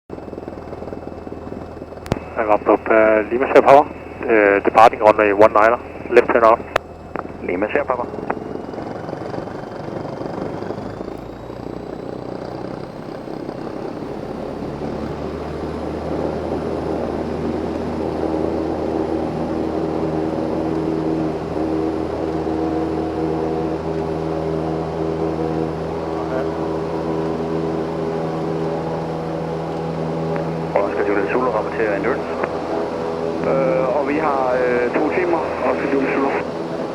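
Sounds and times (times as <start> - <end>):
propeller aircraft engine: 0.0 - 36.9.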